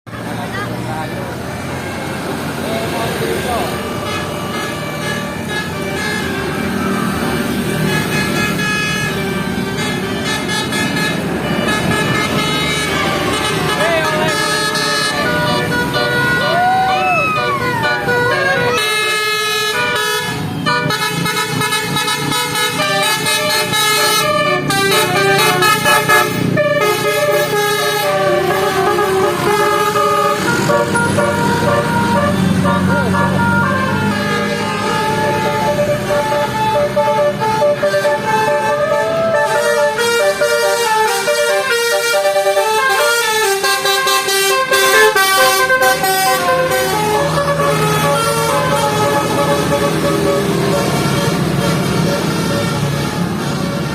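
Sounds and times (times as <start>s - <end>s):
bus musical horn playing a tune: 1.4s - 53.9s.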